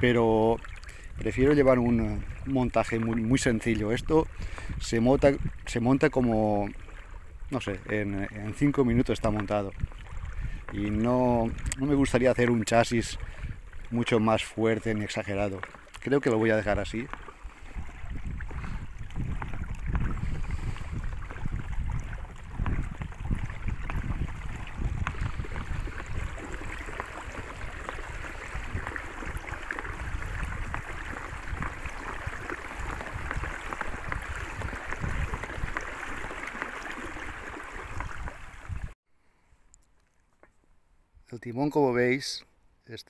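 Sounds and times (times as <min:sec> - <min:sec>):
water splashing against boat: 0:00.0 - 0:39.0
wind rumbling on microphone: 0:00.0 - 0:39.0.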